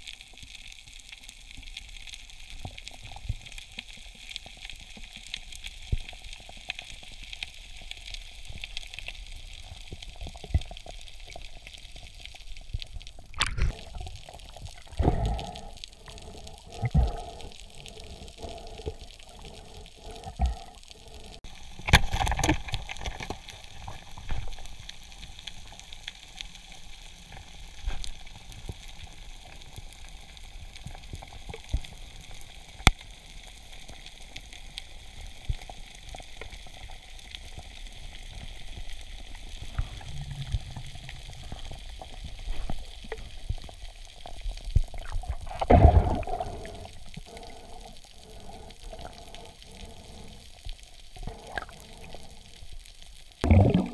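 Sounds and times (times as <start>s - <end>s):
underwater fizzing hiss: 0.0s - 53.9s.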